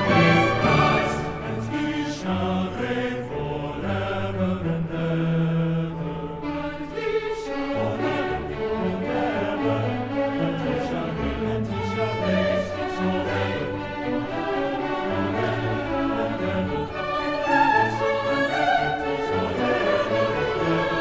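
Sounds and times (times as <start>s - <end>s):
choir singing: 0.0s - 21.0s
orchestra playing: 0.0s - 21.0s.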